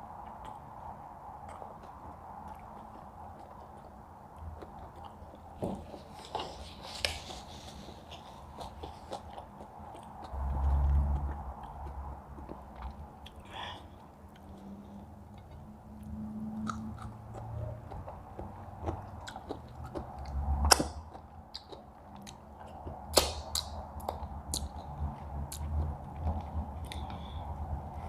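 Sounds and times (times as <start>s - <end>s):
chewing and biting food: 0.2s - 28.0s.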